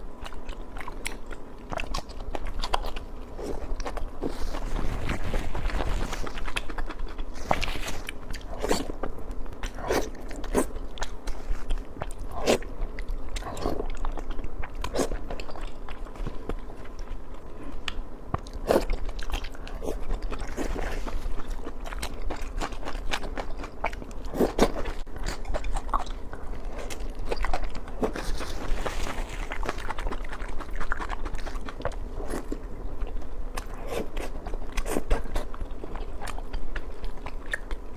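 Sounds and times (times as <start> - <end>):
chewing and biting food: 0.0 - 37.9
wet smacking and crunching: 0.4 - 37.9.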